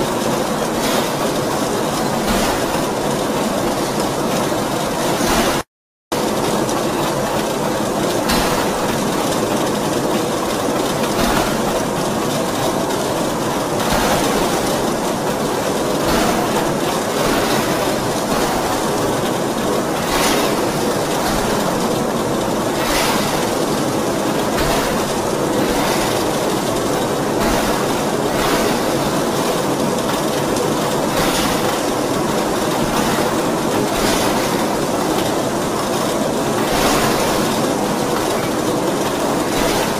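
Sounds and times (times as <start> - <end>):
ring rolling mill rumbling: 6.2 - 39.9.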